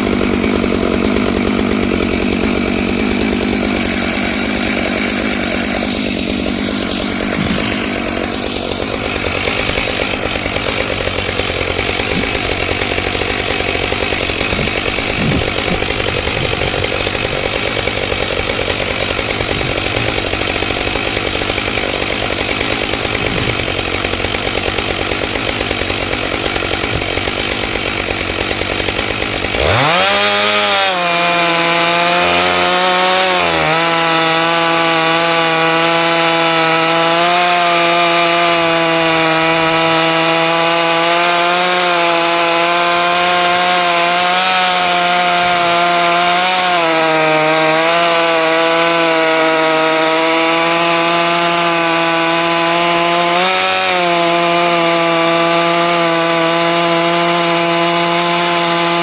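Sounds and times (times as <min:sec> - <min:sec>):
chainsaw ripping log: 0:00.0 - 0:59.0.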